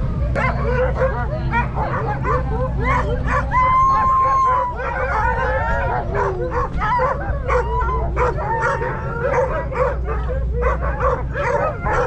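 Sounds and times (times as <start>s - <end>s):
low rumble: 0.0s - 12.0s
dogs yipping and barking: 0.3s - 12.0s.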